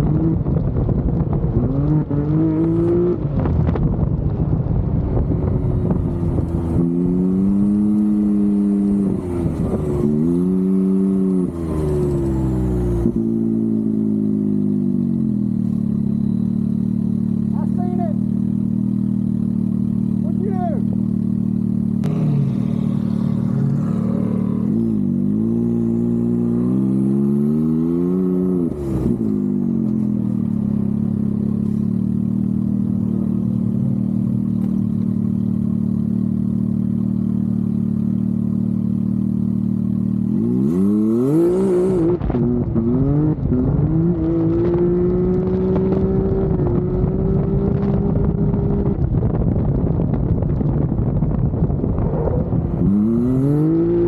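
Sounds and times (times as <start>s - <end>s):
engine running and revving: 0.0s - 54.0s.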